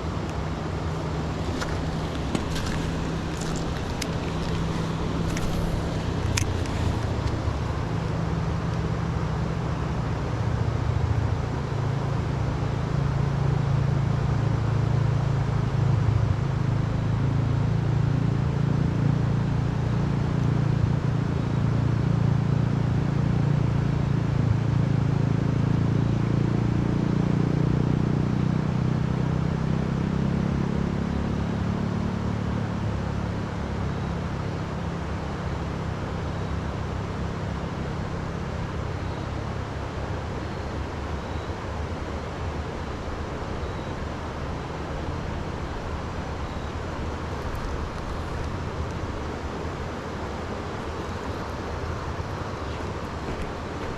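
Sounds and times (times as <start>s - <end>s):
vehicle engine humming: 0.0s - 53.9s.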